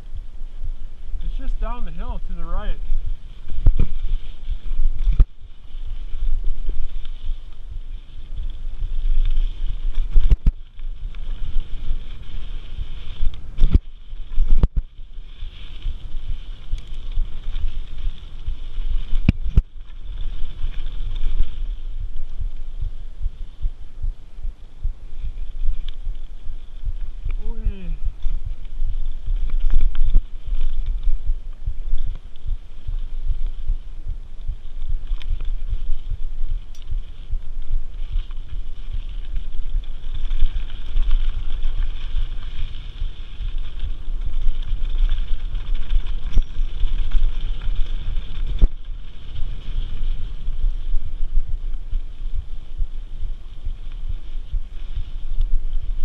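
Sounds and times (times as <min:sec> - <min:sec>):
bike tyre rumble: 0:00.0 - 0:56.0
wind buffeting microphone: 0:00.0 - 0:56.0.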